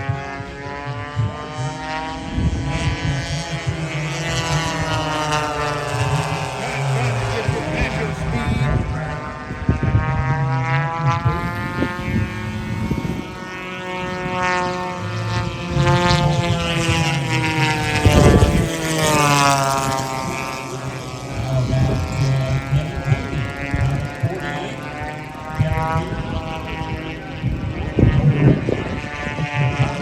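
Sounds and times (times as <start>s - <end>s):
model plane engines racing: 0.0s - 30.0s.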